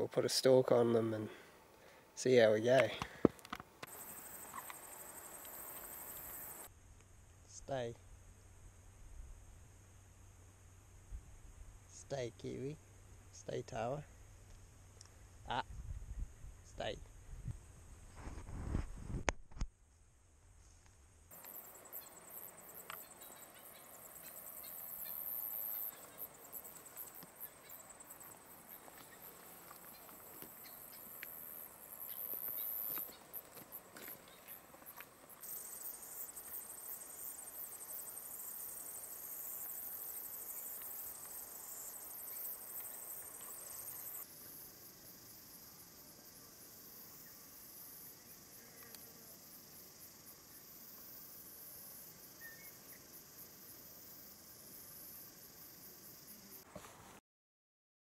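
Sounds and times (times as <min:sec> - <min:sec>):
insects chirring: 0:00.0 - 0:18.8, 0:21.3 - 0:56.7.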